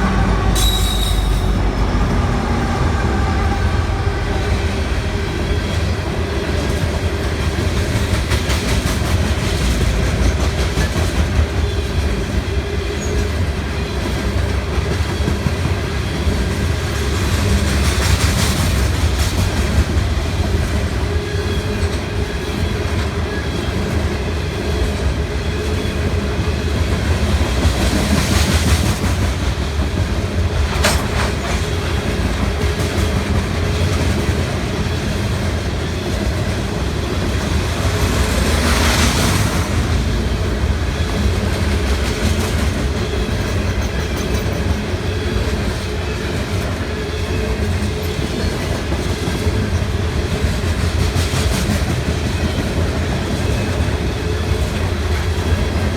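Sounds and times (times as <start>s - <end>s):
train wheels clattering on rails: 0.0s - 55.9s.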